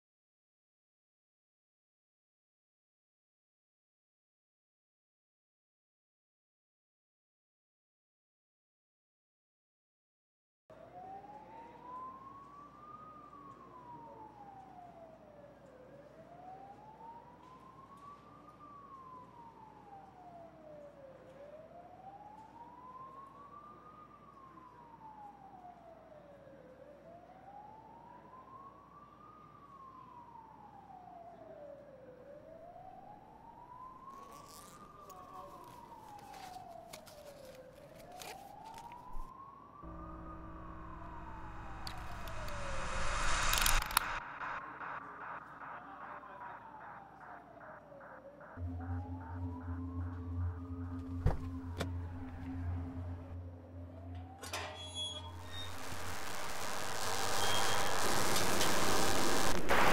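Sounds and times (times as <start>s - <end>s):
emergency vehicle siren wailing: 10.7s - 59.9s.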